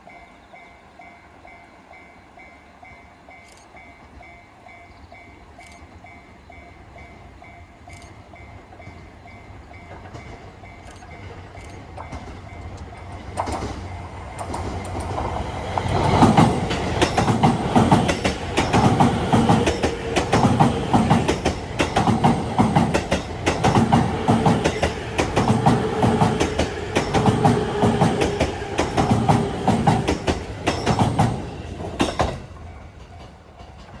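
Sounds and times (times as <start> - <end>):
level-crossing warning bell: 0.0 - 33.5
train wheels clattering: 5.6 - 34.0.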